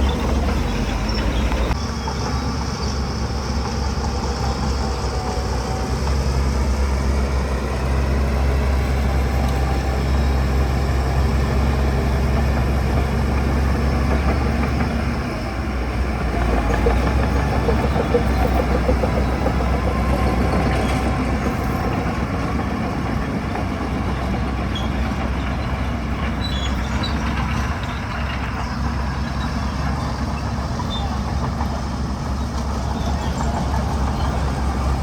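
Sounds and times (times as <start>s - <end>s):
heavy diesel engine rumbling: 0.0s - 35.0s.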